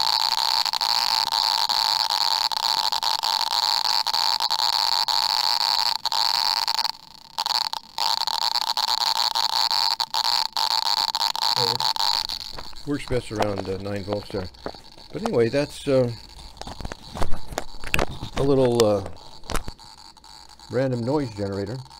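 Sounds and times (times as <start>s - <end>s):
electrical hiss through small speaker: 0.0s - 21.9s.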